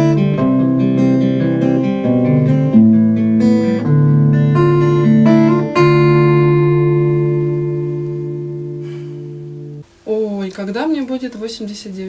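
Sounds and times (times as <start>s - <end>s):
acoustic guitar strumming: 0.0s - 9.9s.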